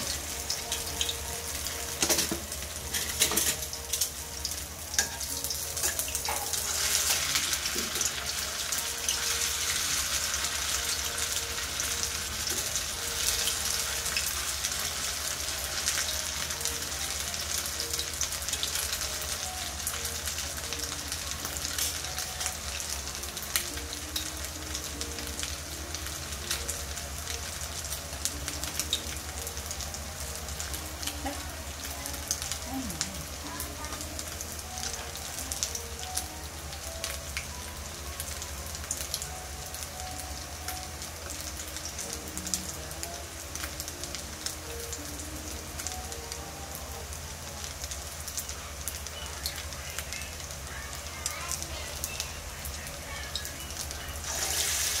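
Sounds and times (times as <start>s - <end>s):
food deep-frying in oil: 0.0s - 55.0s.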